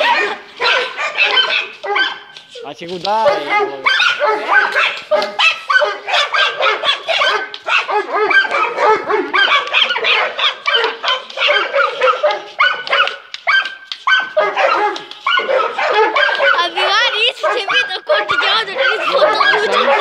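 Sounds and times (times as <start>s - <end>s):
dogs barking excitedly: 0.0s - 20.0s.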